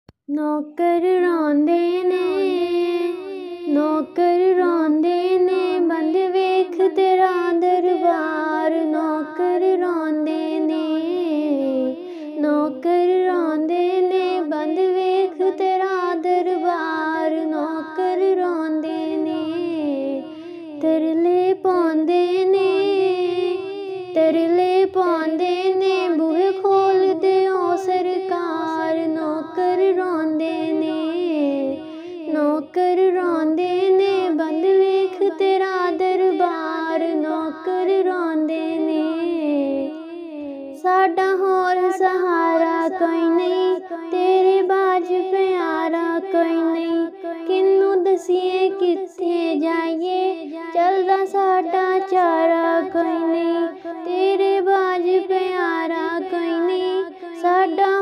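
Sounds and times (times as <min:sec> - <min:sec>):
high voice singing devotional song: 0:00.1 - 0:58.0.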